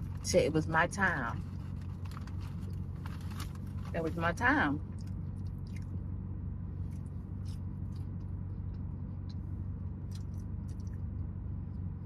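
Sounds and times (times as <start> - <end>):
car engine idling hum: 0.0 - 12.0.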